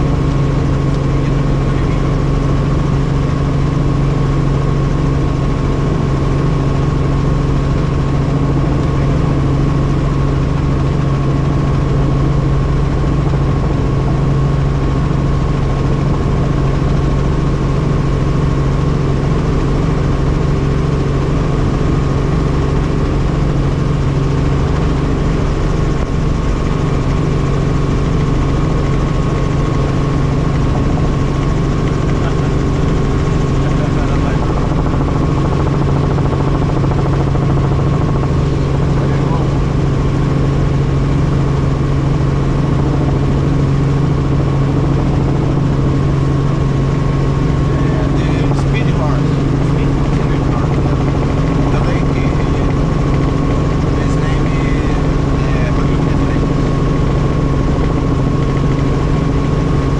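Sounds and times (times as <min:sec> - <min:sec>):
helicopter engine and rotor hum: 0:00.0 - 0:59.9.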